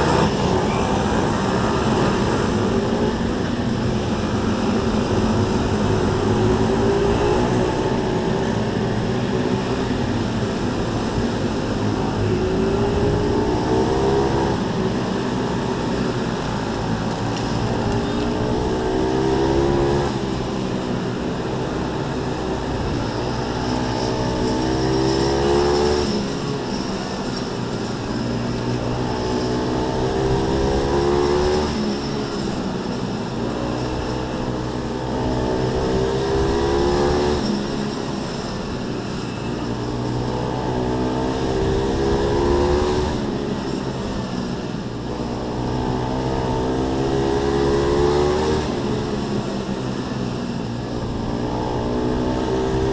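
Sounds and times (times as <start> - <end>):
small motorcycle engines revving: 0.0 - 52.9.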